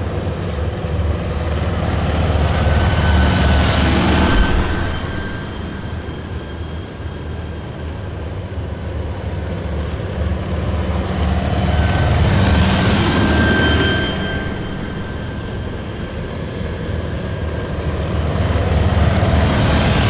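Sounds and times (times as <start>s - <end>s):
heavy vehicle engines rumbling: 0.0s - 20.0s
steady high whine: 0.0s - 20.0s.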